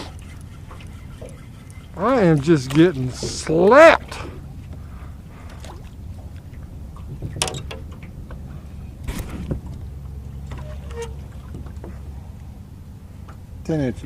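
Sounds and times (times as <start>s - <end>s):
boat engine low rumble: 0.0s - 14.0s.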